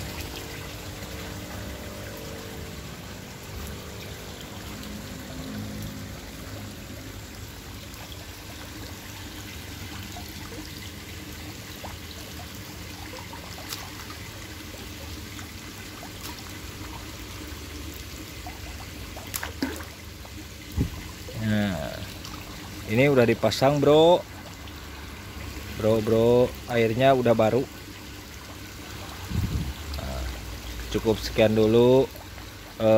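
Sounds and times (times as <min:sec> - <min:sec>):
water pouring into a tank: 0:00.0 - 0:32.9.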